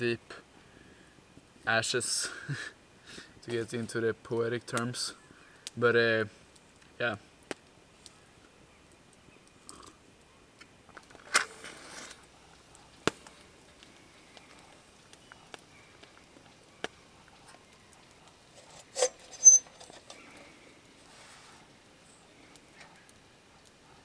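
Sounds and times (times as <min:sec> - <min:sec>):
campfire crackling and popping: 0:00.1 - 0:24.0.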